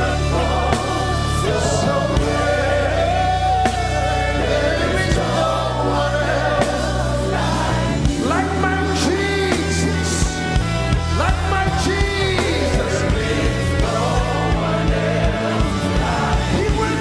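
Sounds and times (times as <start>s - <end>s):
band accompaniment: 0.0s - 17.0s
choir singing gospel music: 0.0s - 17.0s.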